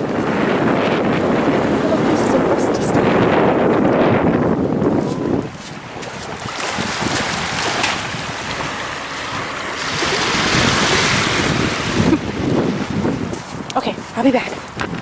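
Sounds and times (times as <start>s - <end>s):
ocean surf washing in: 0.0s - 14.9s
wind rumbling on microphone: 0.0s - 15.0s.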